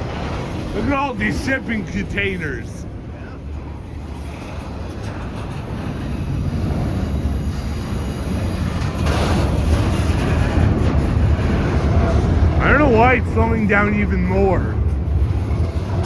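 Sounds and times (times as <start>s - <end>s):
train rattle and hiss: 0.0s - 16.0s
train wheels rumbling on rail: 0.0s - 16.0s.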